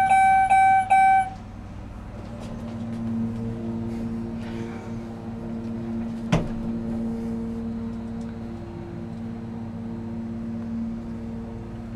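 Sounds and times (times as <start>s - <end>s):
steady hum: 0.0s - 11.9s.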